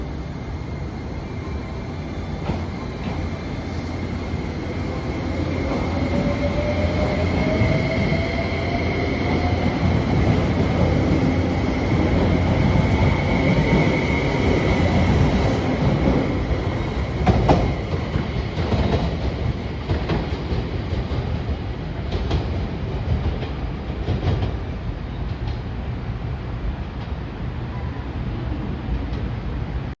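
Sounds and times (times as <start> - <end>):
train rolling rumble: 0.0 - 30.0.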